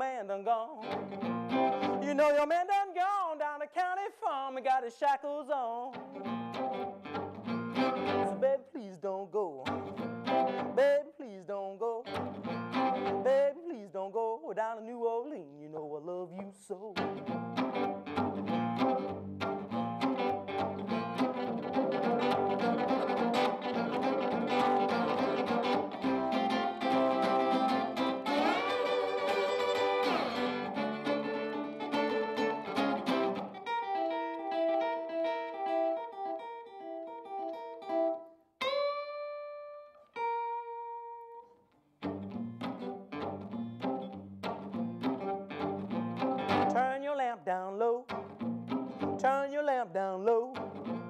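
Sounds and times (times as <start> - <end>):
slide acoustic guitar blues: 0.0 - 51.0.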